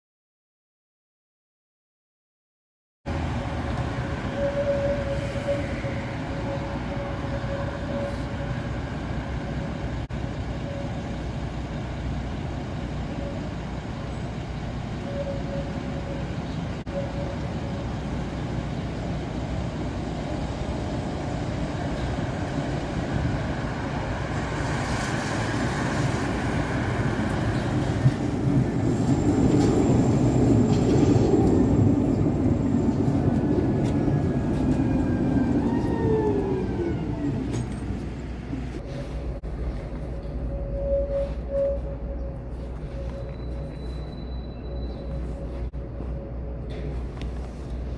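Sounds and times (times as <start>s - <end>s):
tram rumbling on track: 3.1s - 47.9s.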